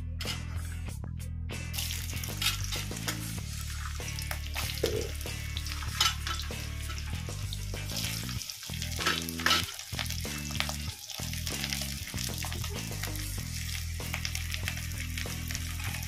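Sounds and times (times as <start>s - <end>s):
background music: 0.0s - 16.0s
vegetables sizzling in oil: 1.8s - 16.0s.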